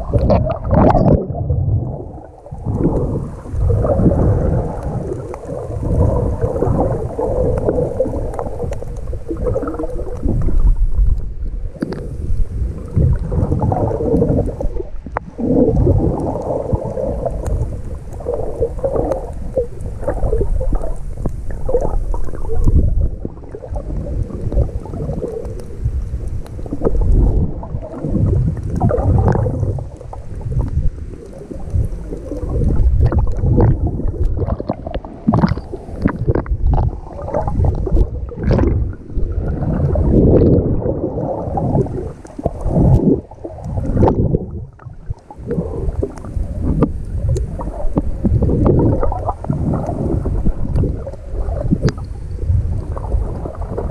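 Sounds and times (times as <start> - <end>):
underwater rumbling and gurgling: 0.0 - 53.9.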